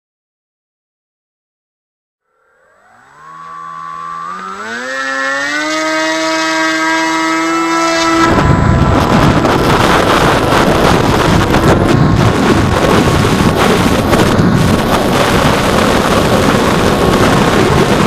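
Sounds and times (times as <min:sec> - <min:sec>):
electric motor whine: 0:02.2 - 0:18.0
loud rushing noise: 0:02.6 - 0:18.0.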